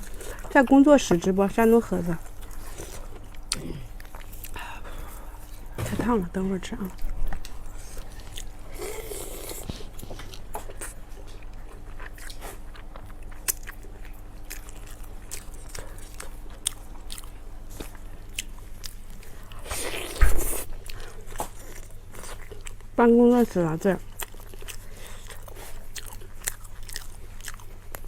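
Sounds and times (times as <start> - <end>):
chewing and biting: 2.2 - 5.7, 6.9 - 23.0, 24.0 - 28.0.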